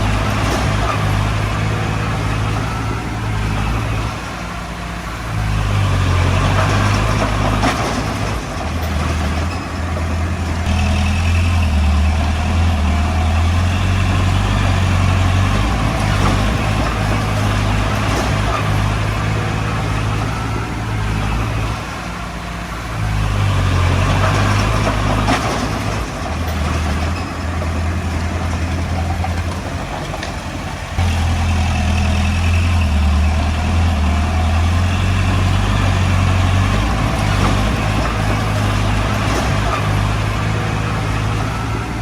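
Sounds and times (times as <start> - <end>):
heavy diesel engine under load: 0.0 - 42.0.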